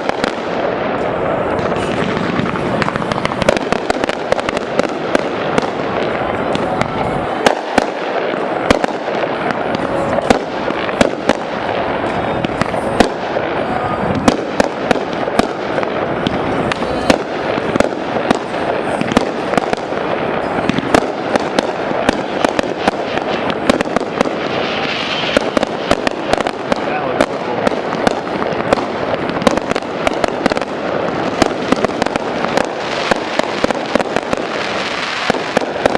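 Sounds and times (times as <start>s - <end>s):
fireworks bursts and crackle: 0.0s - 35.9s
sharp firework reports: 0.0s - 35.9s.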